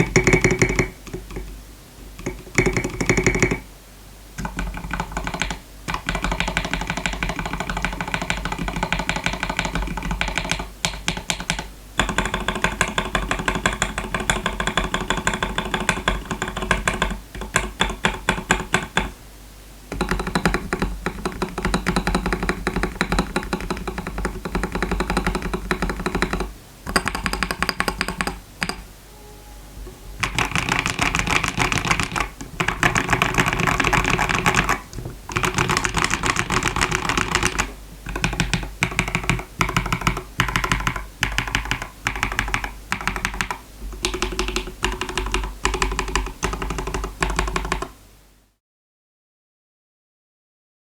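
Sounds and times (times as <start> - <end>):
mechanical keyboard typing: 0.0 - 1.5, 2.2 - 3.6, 4.4 - 19.1, 19.9 - 28.8, 30.2 - 48.0.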